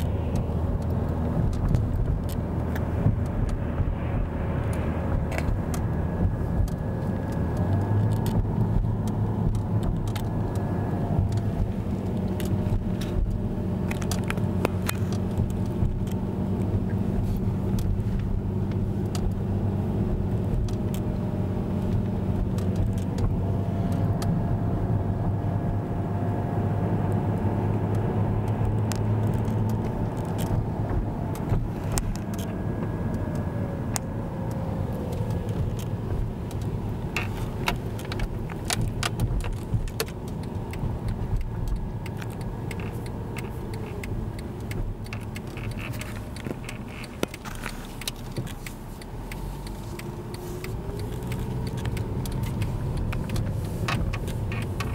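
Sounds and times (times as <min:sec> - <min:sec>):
light clicks and rattles: 0:00.0 - 0:24.4, 0:27.1 - 0:54.9
car engine and road rumble: 0:00.0 - 0:54.9.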